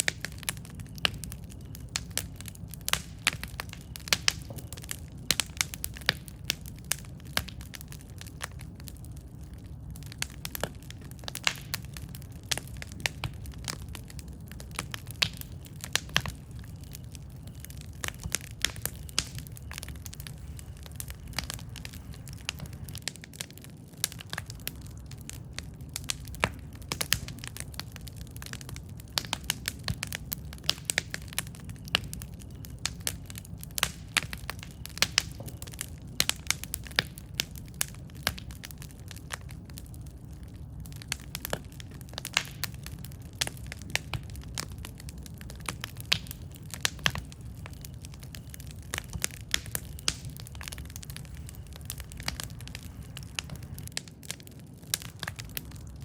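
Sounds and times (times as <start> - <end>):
campfire crackles and pops: 0.0 - 56.0
low rumble of flames: 0.0 - 56.0.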